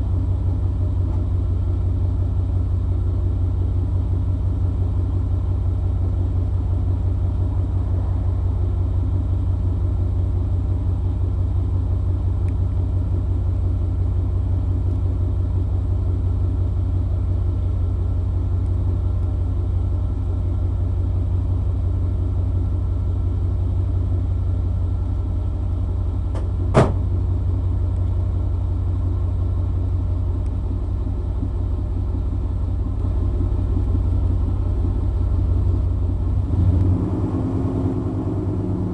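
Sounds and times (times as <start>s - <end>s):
engine idling exhaust rumble: 0.0s - 38.9s.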